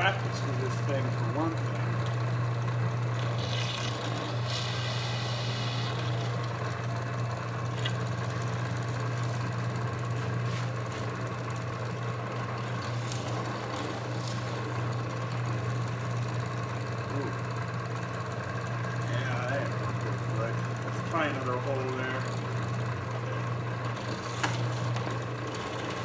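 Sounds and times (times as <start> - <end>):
drill press motor humming: 0.0 - 26.0.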